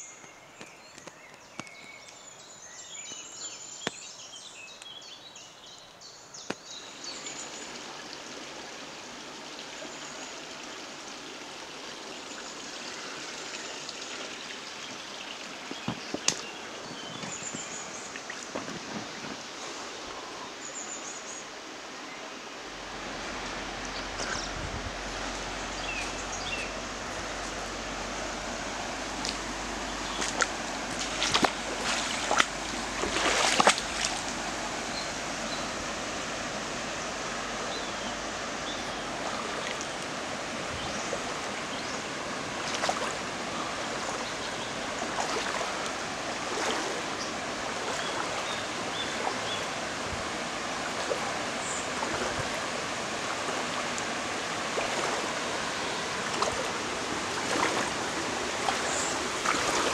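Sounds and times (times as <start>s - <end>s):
river water rushing over stones: 6.5s - 59.9s.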